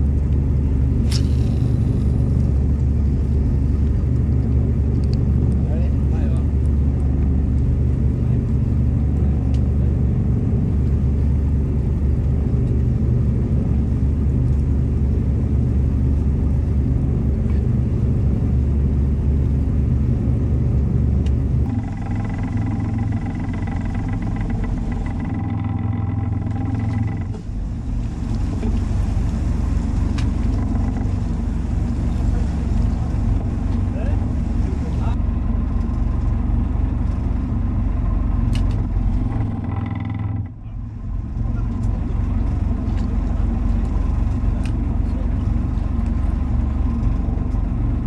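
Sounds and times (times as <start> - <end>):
boat engine rumbling: 0.0 - 48.0
steady whine: 0.0 - 48.0.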